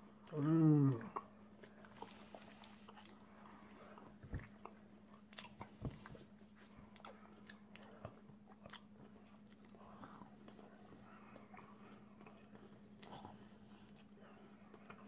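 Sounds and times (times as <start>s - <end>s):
chewing crunches: 1.0s - 6.2s, 6.9s - 15.0s.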